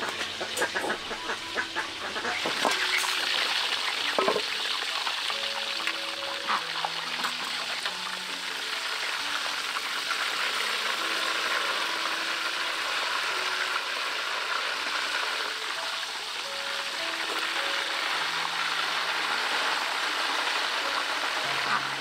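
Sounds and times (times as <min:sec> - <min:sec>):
pork sizzling in hot oil: 0:00.0 - 0:22.0
soft background music: 0:00.0 - 0:22.0.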